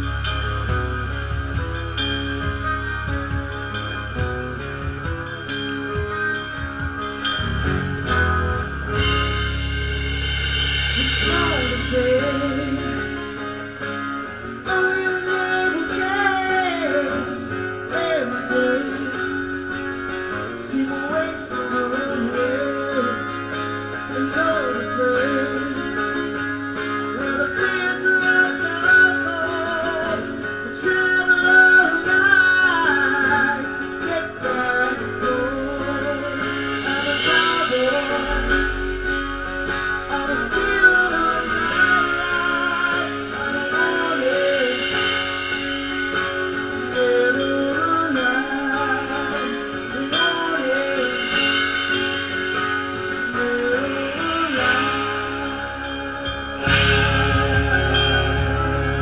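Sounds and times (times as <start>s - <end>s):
bass guitar: 0.0s - 59.0s
drums: 0.0s - 59.0s
electric guitars: 0.0s - 59.0s
man singing into microphone: 11.0s - 59.0s.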